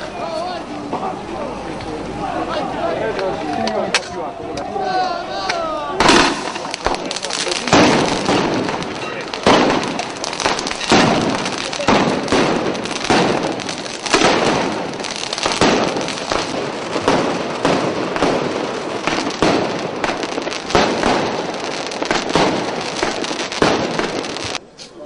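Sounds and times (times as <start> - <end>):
fireworks and firecrackers banging: 0.0 - 24.9.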